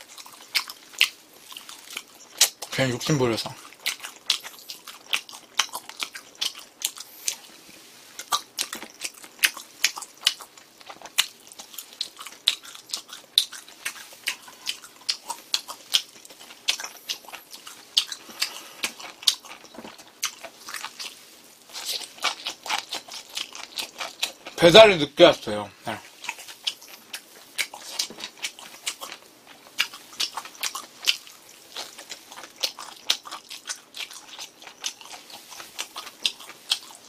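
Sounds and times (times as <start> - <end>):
person chewing: 0.0 - 24.6, 25.8 - 37.0.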